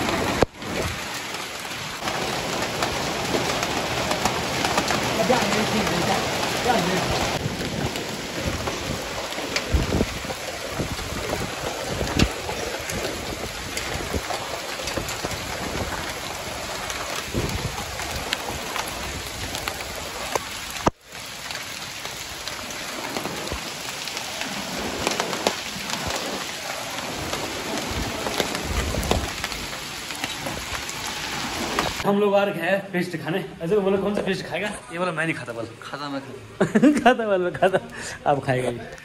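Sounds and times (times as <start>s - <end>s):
hailstones ticking: 0.0s - 32.1s
heavy rain hissing: 0.0s - 32.1s.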